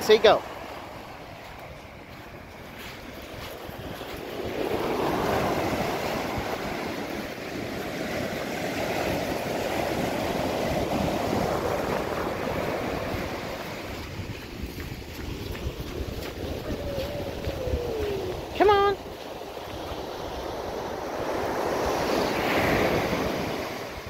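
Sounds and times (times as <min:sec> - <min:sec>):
wind rumble on microphone: 0:00.2 - 0:24.0
surf breaking on beach: 0:03.0 - 0:24.0.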